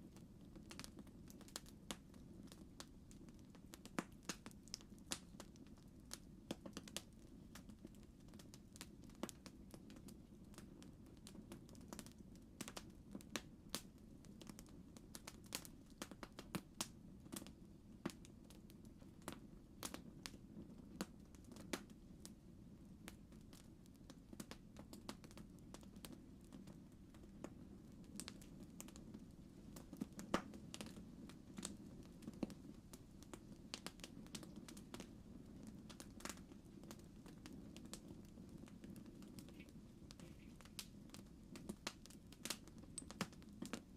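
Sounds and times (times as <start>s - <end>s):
campfire crackling and popping: 0.0s - 43.9s
low rumble of burning wood: 0.0s - 43.9s.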